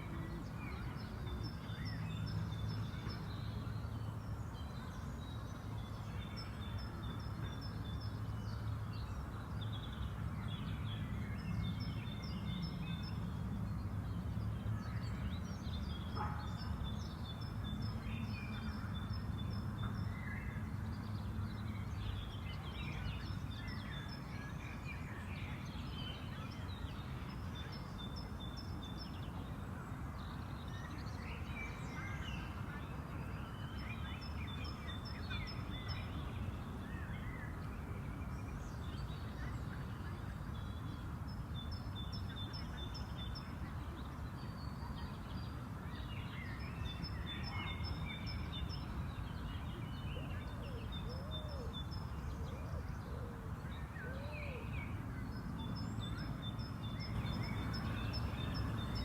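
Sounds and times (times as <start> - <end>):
songbirds singing and calling: 0.0 - 59.0.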